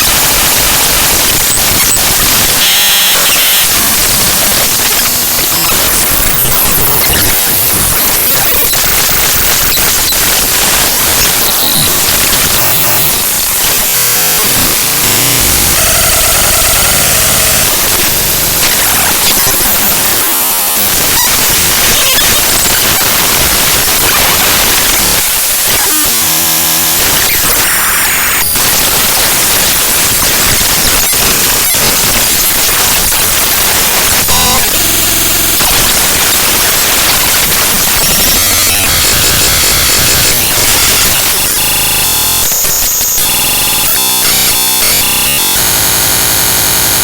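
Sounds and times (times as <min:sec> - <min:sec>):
harsh static: 0:00.0 - 0:47.0
short buzzing tones: 0:01.2 - 0:28.8, 0:30.8 - 0:45.7.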